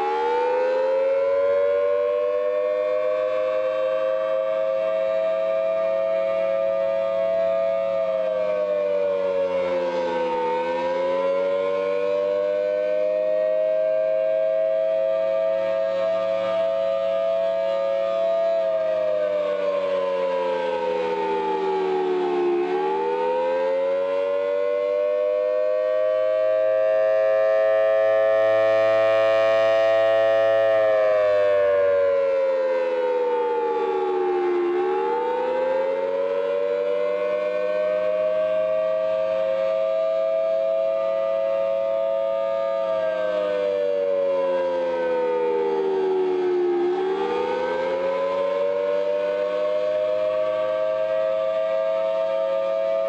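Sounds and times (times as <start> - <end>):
warning siren two-tone chord: 0.0 - 53.0.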